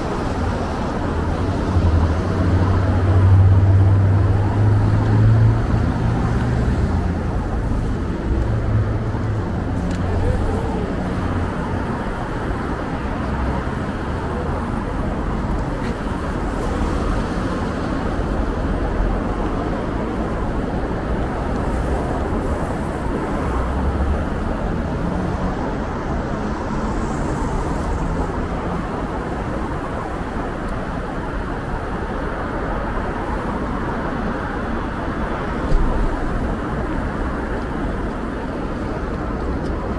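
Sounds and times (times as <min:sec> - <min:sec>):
street traffic rumble: 0:00.0 - 0:39.9.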